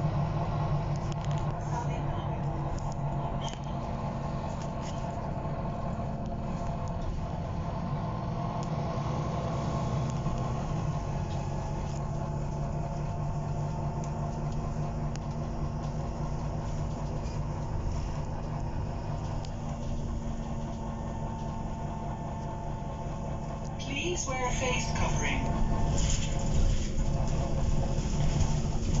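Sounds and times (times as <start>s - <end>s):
diesel bus engine drone: 0.0s - 29.0s.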